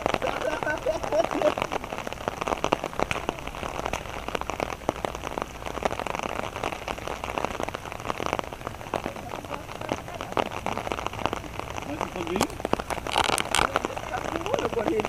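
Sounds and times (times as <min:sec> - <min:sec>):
rain falling: 0:00.0 - 0:15.0
raindrops ticking close by: 0:00.0 - 0:15.0.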